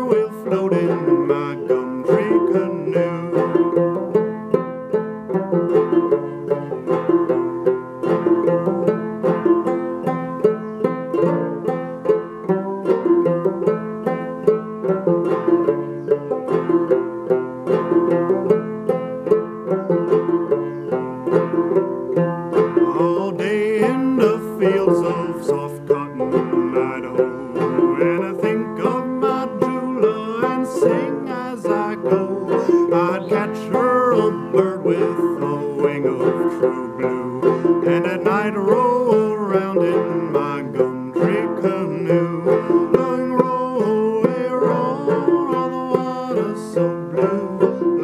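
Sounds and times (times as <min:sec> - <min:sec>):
banjo playing lively tune: 0:00.0 - 0:48.0.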